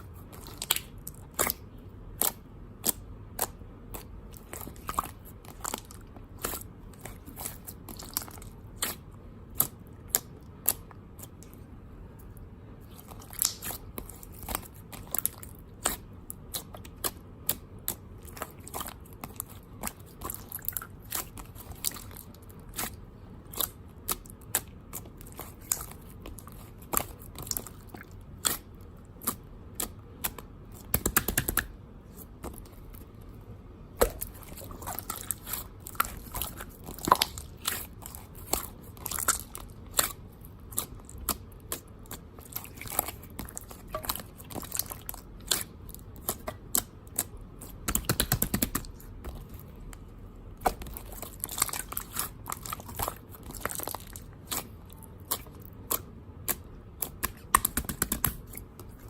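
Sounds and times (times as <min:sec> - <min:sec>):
close-up crunching and clicking: 0:00.0 - 0:59.0.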